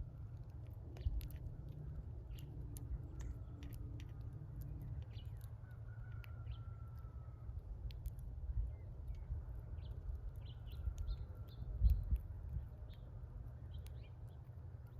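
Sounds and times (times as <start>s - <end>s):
small birds chirping: 0.0s - 14.9s
steady low rumble: 0.0s - 14.9s.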